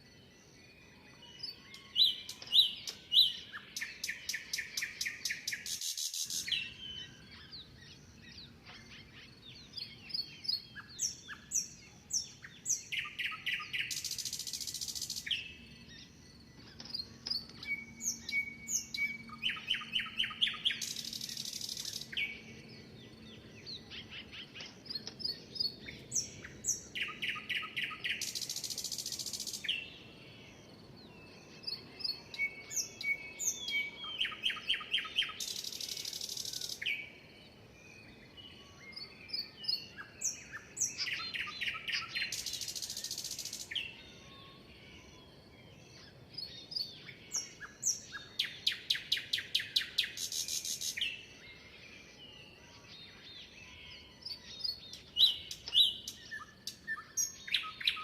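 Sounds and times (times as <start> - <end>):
songbird chirps and trill: 0.0 - 58.0.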